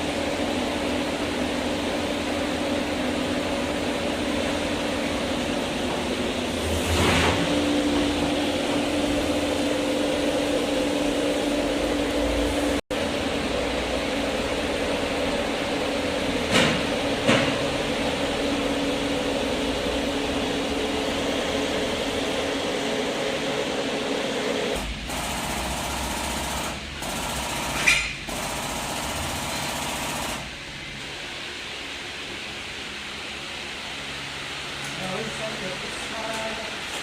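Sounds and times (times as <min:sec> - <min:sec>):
machine humming: 0:00.0 - 0:31.3.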